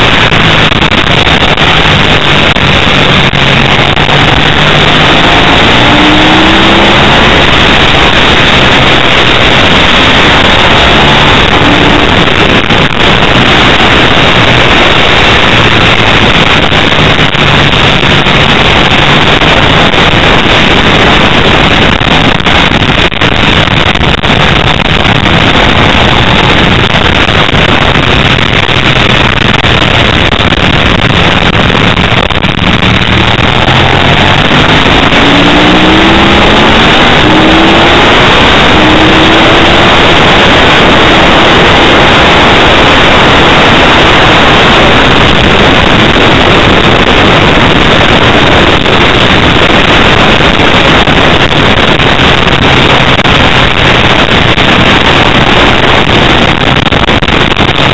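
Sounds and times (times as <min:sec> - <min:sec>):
motorcycle engine accelerating: 0:00.0 - 0:57.9
wind rush on microphone: 0:00.0 - 0:57.9.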